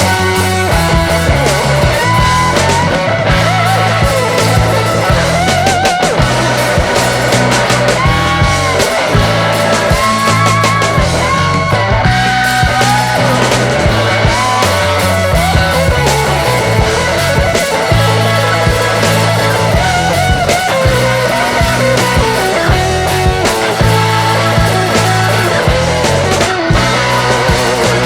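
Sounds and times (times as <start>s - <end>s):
bass line: 0.0s - 28.0s
drum beat: 0.0s - 28.0s
lead guitar melody: 0.0s - 28.0s.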